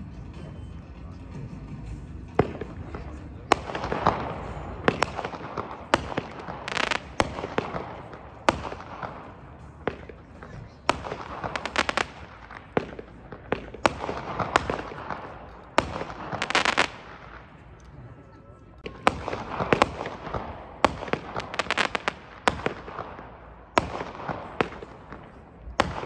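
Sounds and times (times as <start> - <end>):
firework bursts overhead: 1.7 - 26.0
firework crackle: 2.4 - 17.9, 18.8 - 26.0.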